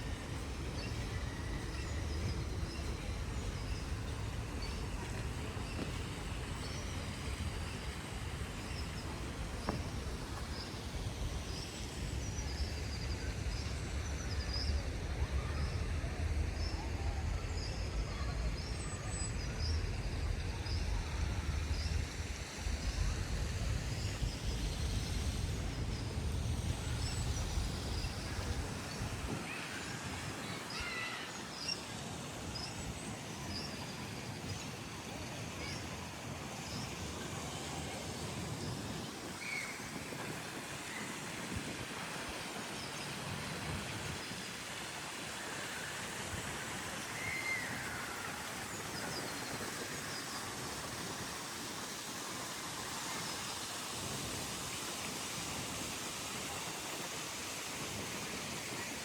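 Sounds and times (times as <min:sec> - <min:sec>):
low rumble of city noise: 0:00.0 - 0:59.0.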